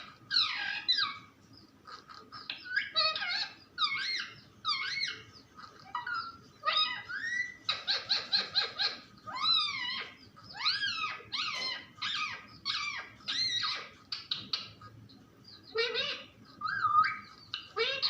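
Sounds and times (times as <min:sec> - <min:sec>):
parrot harsh calls: 0:00.0 - 0:15.0, 0:15.7 - 0:18.0.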